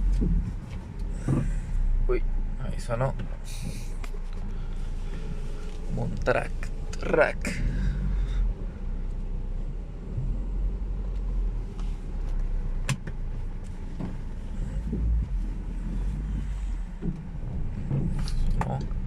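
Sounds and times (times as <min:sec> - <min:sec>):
car engine running low rumble: 0:00.0 - 0:19.0.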